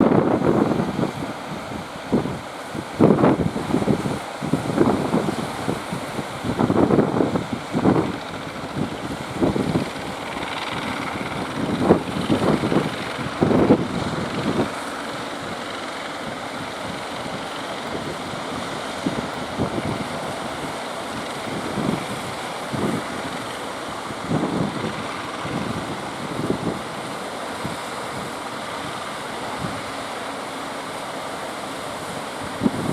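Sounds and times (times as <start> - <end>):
wind buffeting microphone: 0.0 - 30.2, 31.9 - 32.9
surf rushing: 0.0 - 32.9.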